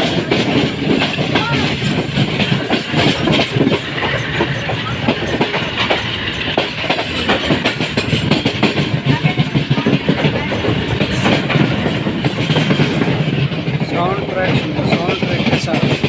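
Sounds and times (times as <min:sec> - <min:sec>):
train rumble: 0:00.0 - 0:16.0
train wheels clacking over rail joints: 0:00.0 - 0:16.0.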